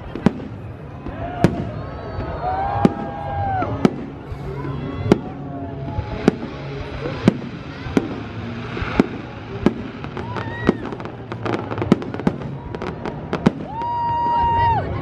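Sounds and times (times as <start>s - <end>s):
firework crackling: 0.0s - 15.0s.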